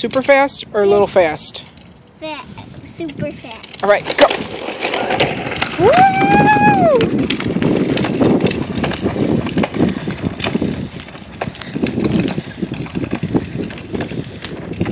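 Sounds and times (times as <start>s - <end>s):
rushing wind noise: 0.0s - 14.9s
bicycle clicks and scuffs: 2.6s - 14.9s.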